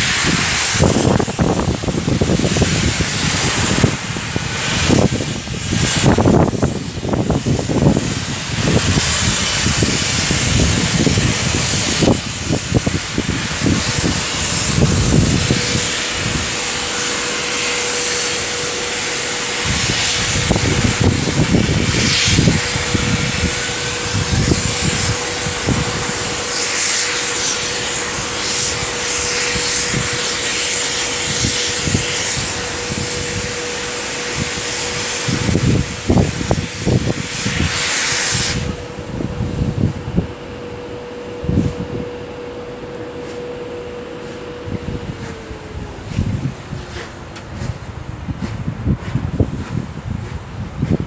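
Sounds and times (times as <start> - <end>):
steady hum: 0.0 - 50.2
steam hissing: 0.0 - 51.0
steam locomotive low rumbling: 0.0 - 51.0.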